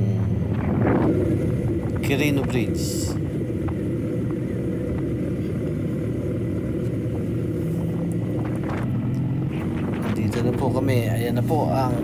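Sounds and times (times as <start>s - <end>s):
motorcycle engine rumble: 0.0s - 12.0s
road noise: 0.0s - 12.0s.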